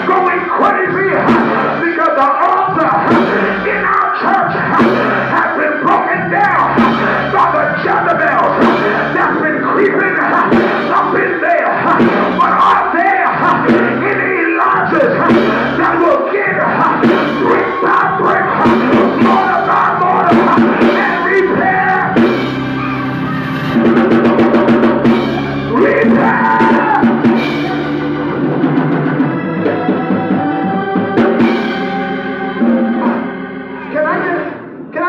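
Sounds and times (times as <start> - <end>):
drum kit with cymbal hits: 0.0 - 33.9
sustained keyboard chords: 0.0 - 35.0.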